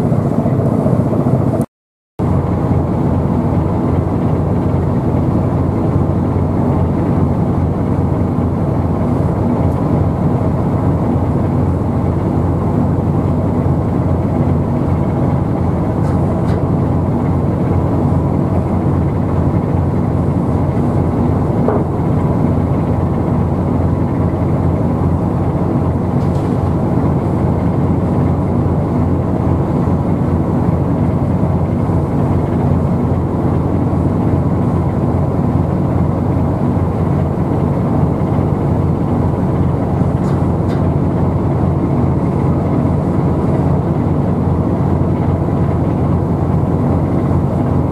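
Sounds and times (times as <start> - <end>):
low engine rumble: 0.0 - 47.9.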